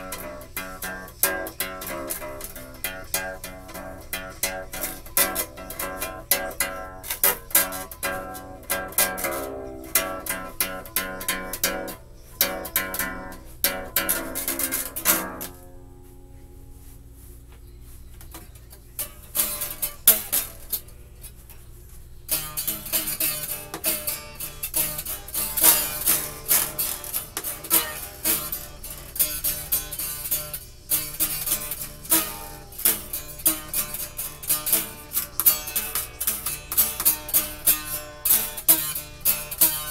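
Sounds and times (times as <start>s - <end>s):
acoustic guitar: 0.0s - 39.9s.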